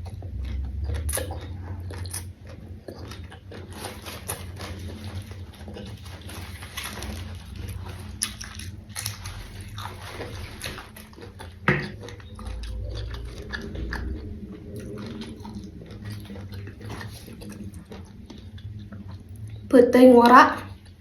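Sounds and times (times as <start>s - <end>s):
crunchy biting and chewing: 0.0s - 19.7s.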